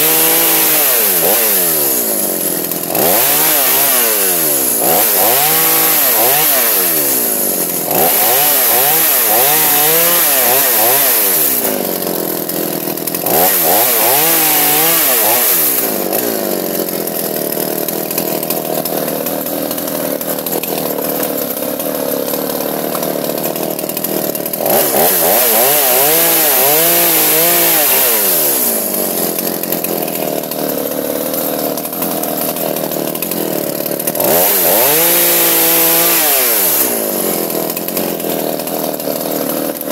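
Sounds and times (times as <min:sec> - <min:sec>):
two-stroke chainsaw running: 0:00.0 - 0:39.9.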